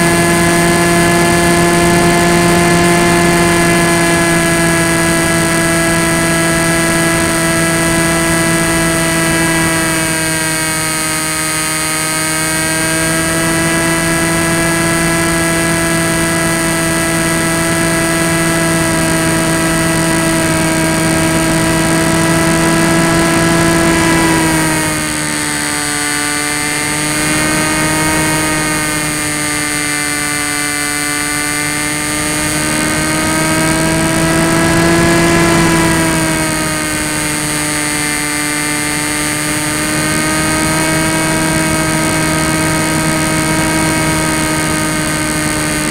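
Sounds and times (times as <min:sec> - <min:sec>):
rushing wind: 0:00.0 - 0:11.0, 0:12.6 - 0:45.9
electric motor whine: 0:00.0 - 0:45.9.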